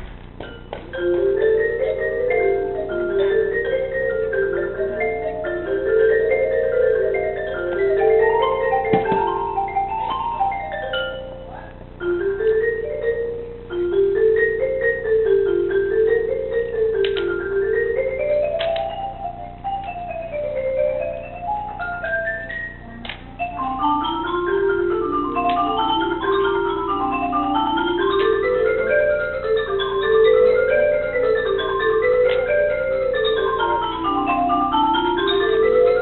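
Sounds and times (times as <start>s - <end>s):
mallet percussion runs: 0.0s - 36.0s.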